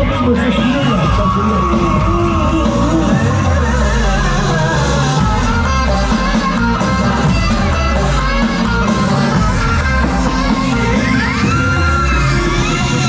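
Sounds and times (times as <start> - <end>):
music with heavy bass beat: 0.0 - 13.0
wavering melody line: 0.6 - 13.0.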